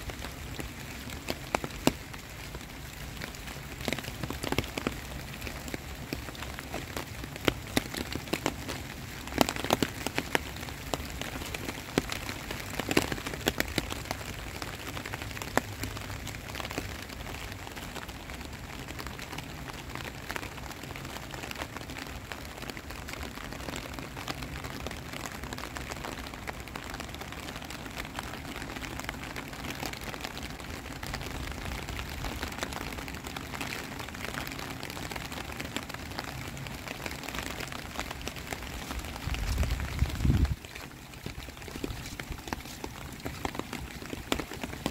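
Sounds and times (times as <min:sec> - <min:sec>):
large raindrops tapping: 0:00.0 - 0:44.9
steady rain hiss: 0:00.0 - 0:44.9.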